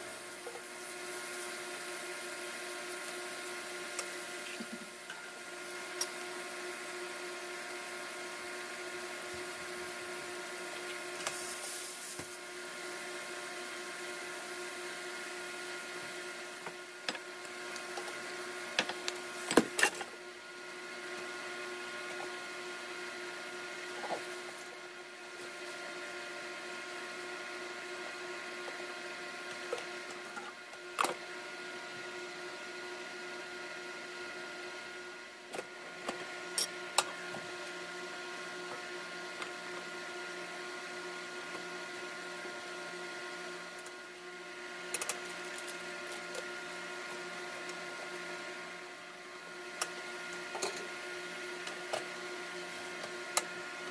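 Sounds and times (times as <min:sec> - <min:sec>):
food stir-frying in pan: 0:00.0 - 0:53.9
steady whirring hum: 0:00.0 - 0:53.9.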